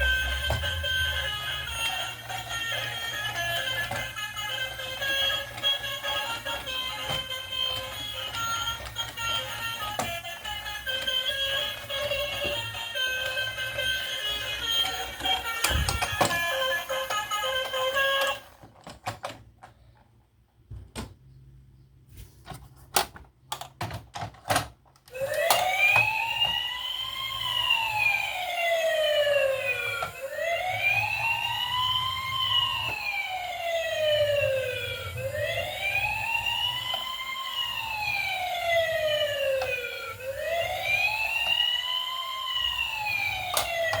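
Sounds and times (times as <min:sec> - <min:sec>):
siren wailing: 0:00.0 - 0:18.5, 0:25.1 - 0:44.0.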